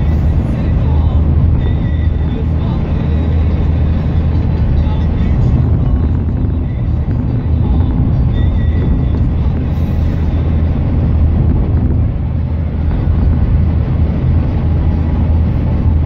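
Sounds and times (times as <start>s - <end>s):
engine and tyre rumble in cabin: 0.0s - 16.0s.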